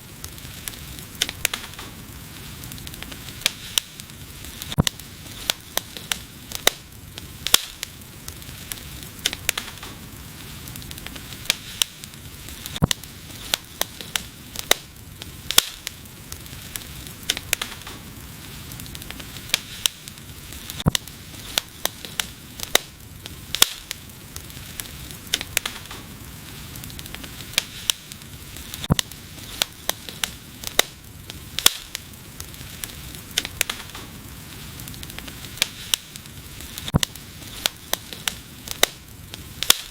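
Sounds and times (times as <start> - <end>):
soft hiss: 0.0 - 39.9
wood fire crackling and popping: 0.0 - 39.9.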